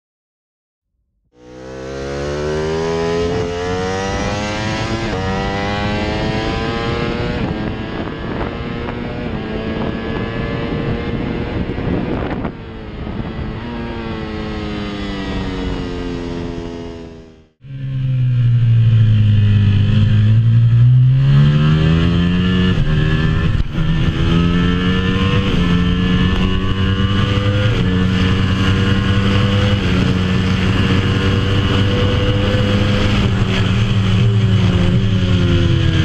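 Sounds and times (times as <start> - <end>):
motorcycle engine accelerating: 1.3 - 36.0.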